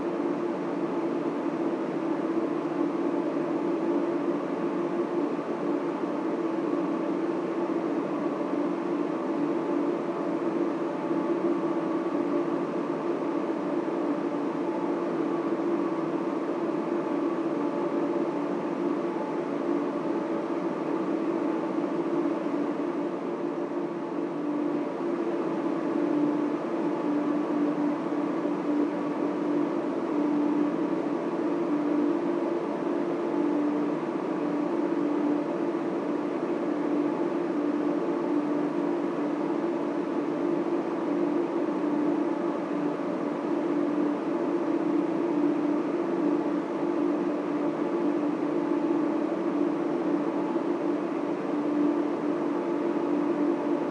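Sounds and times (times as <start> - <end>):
constant hum: 0.0 - 53.9
cooling fans droning: 0.0 - 53.9.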